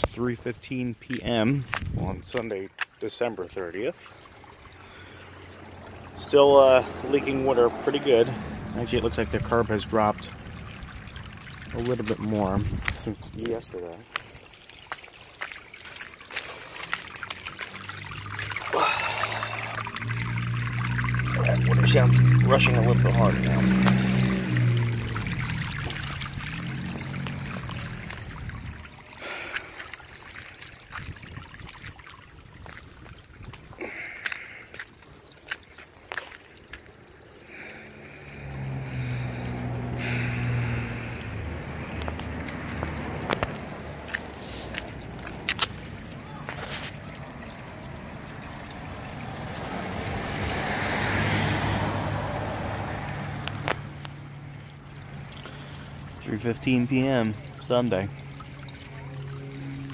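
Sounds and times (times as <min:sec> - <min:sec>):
water rushing from leaking pipe: 0:01.0 - 0:59.9.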